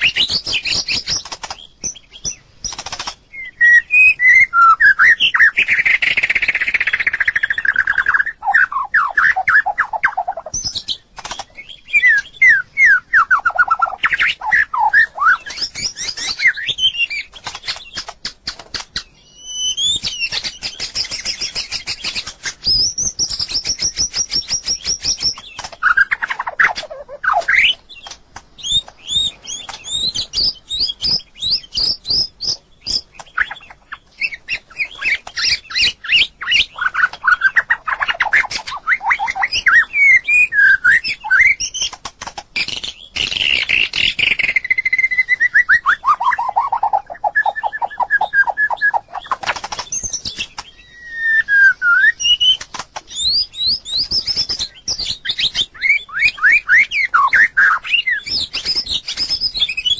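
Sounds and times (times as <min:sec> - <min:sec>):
bird singing whistled notes: 0:00.0 - 0:42.0, 0:42.6 - 0:59.9.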